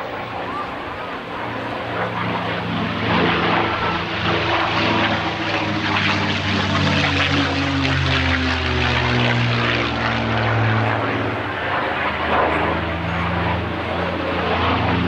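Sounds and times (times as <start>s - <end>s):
propeller plane engine roaring: 0.0s - 15.0s.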